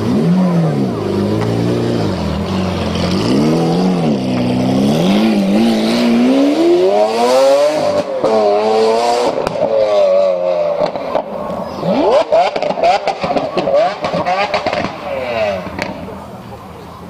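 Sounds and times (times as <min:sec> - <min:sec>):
sports car engine revving: 0:00.0 - 0:16.2.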